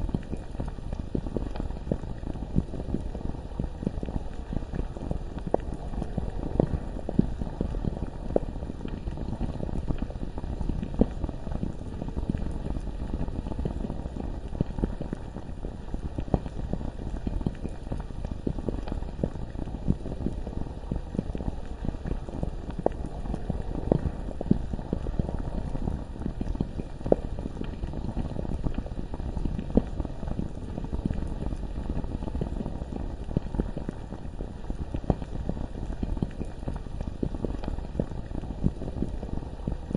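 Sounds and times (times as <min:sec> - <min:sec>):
lava bubbling and popping: 0:00.0 - 0:39.9.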